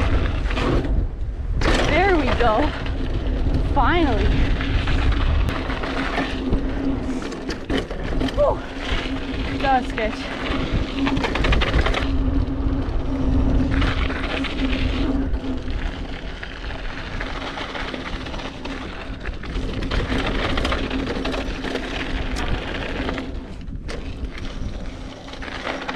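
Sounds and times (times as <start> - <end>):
humming buzz: 0.0 - 25.8
tyre rumble over dirt: 0.0 - 25.9
wind buffeting microphone: 0.0 - 25.9.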